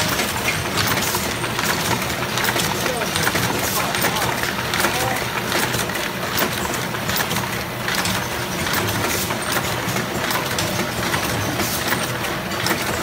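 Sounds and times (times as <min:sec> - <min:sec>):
machine clattering clicks and knocks: 0:00.0 - 0:13.0.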